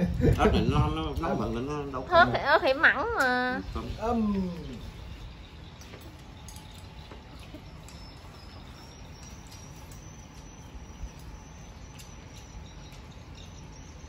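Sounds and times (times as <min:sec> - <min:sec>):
insect high-pitched drone: 0:01.1 - 0:14.0.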